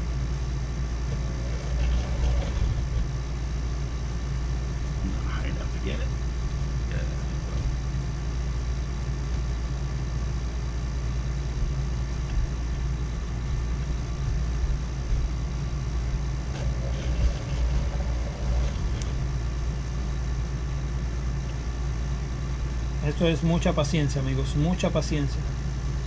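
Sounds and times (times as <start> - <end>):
machine motor humming: 0.0 - 26.0.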